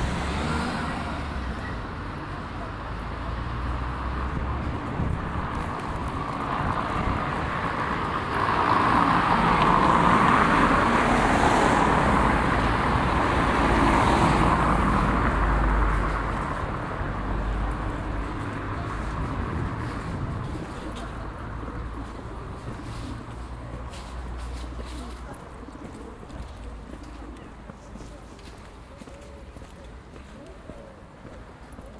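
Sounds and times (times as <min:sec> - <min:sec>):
car tyres rumbling on cobblestones: 0:00.0 - 0:31.9.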